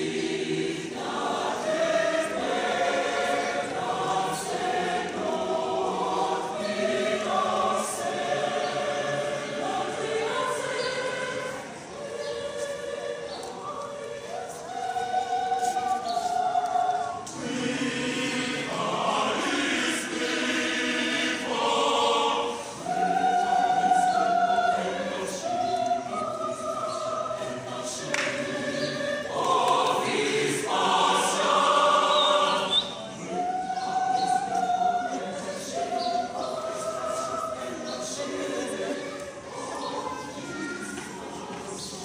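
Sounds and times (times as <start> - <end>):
mixed choir singing: 0.0 - 42.0.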